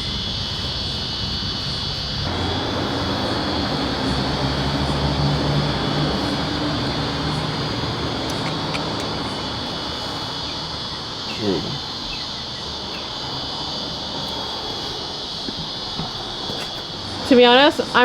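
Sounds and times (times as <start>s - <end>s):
crickets chirping: 0.0s - 18.0s
passing engine hum: 0.0s - 18.0s.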